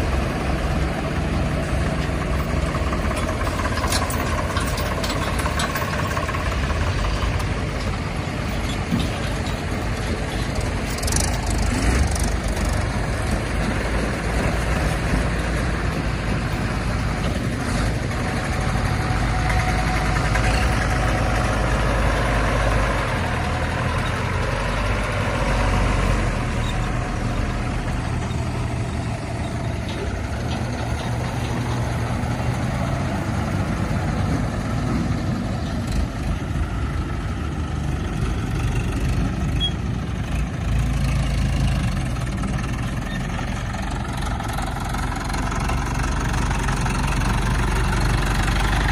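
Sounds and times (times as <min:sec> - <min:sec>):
heavy diesel machinery drone: 0:00.0 - 0:48.9.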